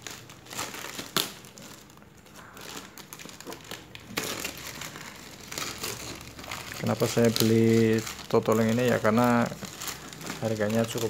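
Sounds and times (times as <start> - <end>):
plastic bag crinkling and rustling: 0.0 - 11.0
sharp plastic crackle: 0.0 - 11.0.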